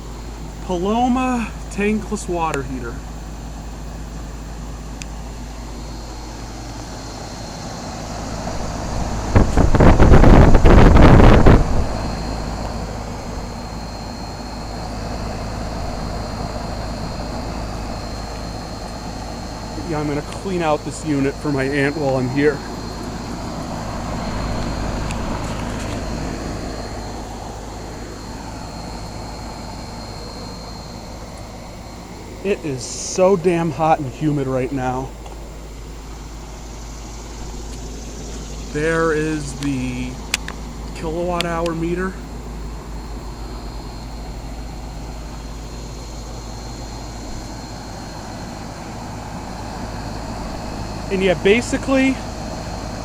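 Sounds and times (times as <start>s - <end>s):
air conditioner unit humming: 0.0s - 53.0s
fan rushing: 0.0s - 53.0s.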